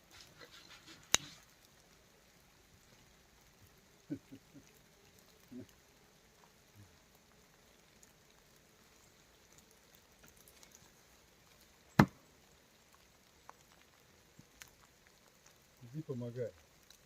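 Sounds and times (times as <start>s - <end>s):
faint rain drips: 0.0s - 17.0s.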